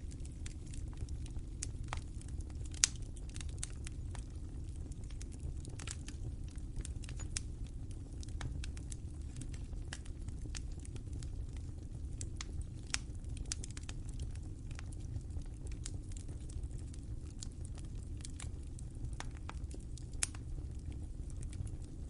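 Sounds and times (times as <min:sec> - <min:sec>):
fire crackles and pops: 0:00.0 - 0:22.0
wood fire rumbling: 0:00.0 - 0:22.0.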